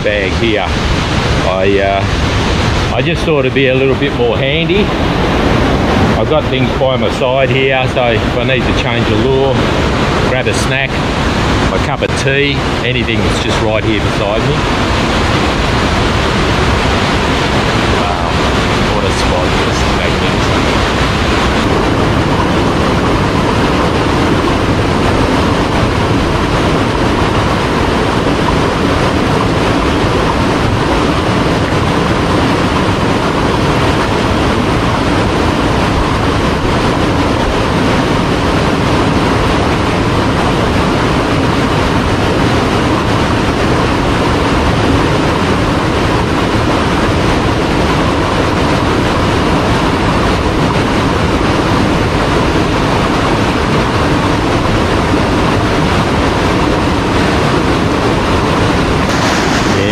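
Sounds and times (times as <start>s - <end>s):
water rushing over boulders: 0.0s - 59.9s.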